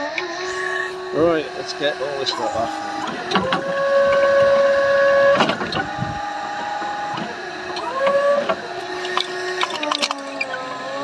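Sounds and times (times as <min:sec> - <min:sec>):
hydraulic pump whining: 0:00.0 - 0:11.0.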